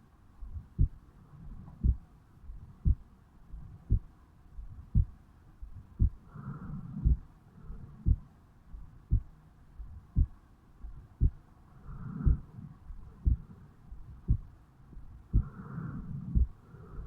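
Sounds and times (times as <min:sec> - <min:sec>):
heartbeat thumps: 0:00.4 - 0:06.2, 0:07.0 - 0:16.6.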